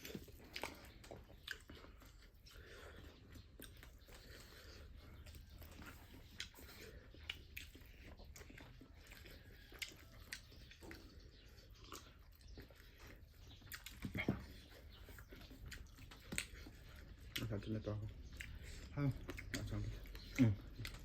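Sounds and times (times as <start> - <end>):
lip smacks: 0.0 - 17.6
chewing with wet clicks: 0.0 - 21.0.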